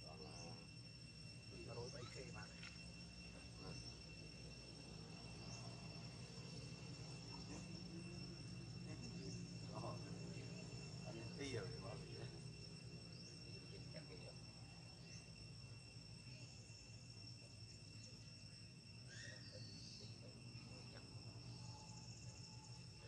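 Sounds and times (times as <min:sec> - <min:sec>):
crickets chorus: 0:00.0 - 0:23.0
faint chirps: 0:00.0 - 0:23.0.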